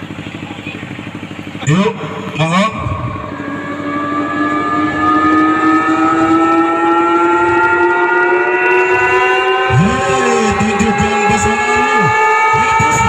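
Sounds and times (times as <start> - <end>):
rising siren-like tone: 1.1 - 13.0.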